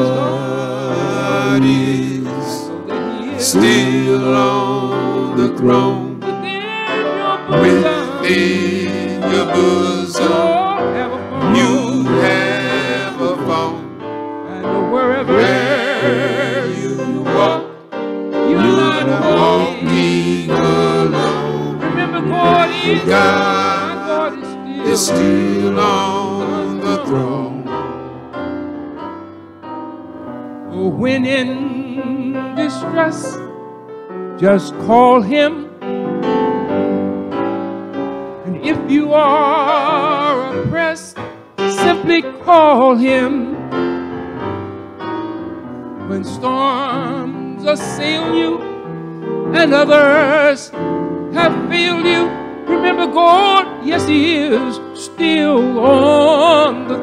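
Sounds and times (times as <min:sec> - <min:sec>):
male quartet singing in harmony: 0:00.0 - 0:28.6, 0:30.7 - 0:33.8, 0:34.4 - 0:37.5, 0:38.4 - 0:44.8, 0:46.0 - 0:57.0.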